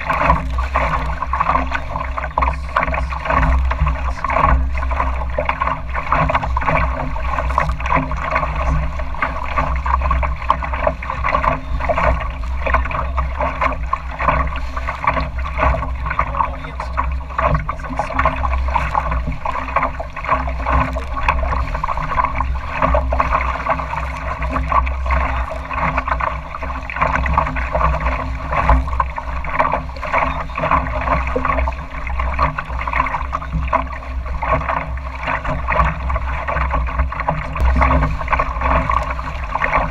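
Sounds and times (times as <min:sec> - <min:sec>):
low rumble: 0:00.0 - 0:39.9
water splashing against boat hull: 0:00.0 - 0:39.9.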